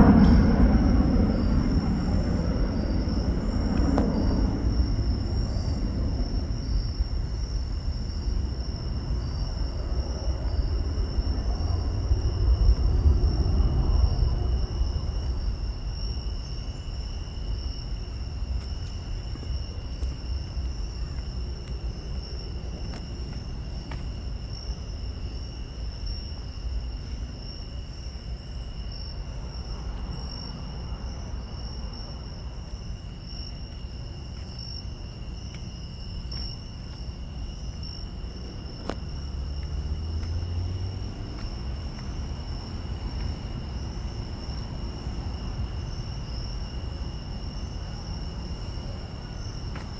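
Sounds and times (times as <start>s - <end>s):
night insects trilling: 0.0s - 49.9s.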